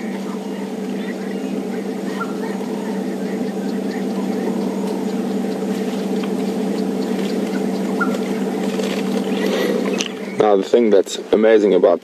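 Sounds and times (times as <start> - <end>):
vehicle engine idling: 0.0 - 10.9.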